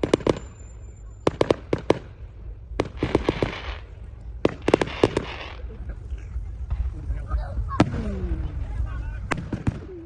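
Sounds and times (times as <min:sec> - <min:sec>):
crackling hiss: 0:00.0 - 0:10.0
fireworks cracking: 0:00.0 - 0:10.0.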